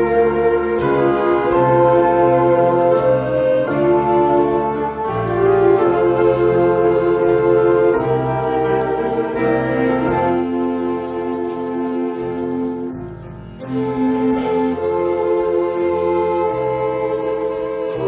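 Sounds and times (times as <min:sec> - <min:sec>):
church orchestra playing a hymn: 0:00.0 - 0:18.0.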